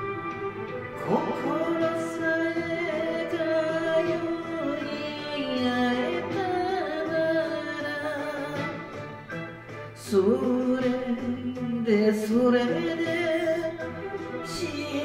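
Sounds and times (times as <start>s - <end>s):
instrumental accompaniment: 0.0s - 15.0s
man singing a slow ballad: 1.0s - 8.9s, 10.0s - 15.0s.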